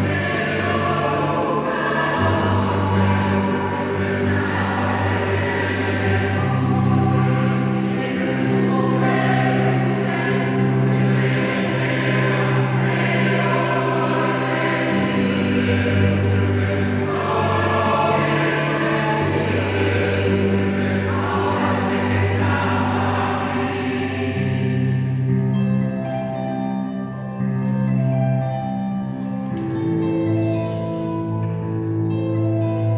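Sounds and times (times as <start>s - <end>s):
choir singing sustained chords: 0.0s - 32.9s.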